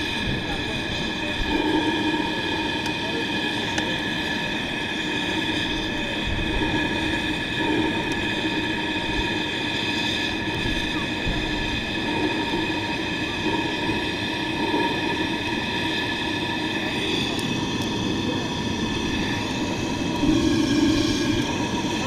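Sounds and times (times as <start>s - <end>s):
high-pitched squeal: 0.0s - 22.0s
miniature steam locomotive running: 0.0s - 22.0s.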